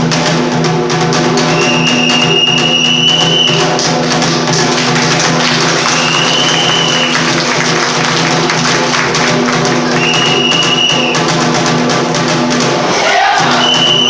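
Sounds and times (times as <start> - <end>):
rapid taiko drumming: 0.0 - 14.0.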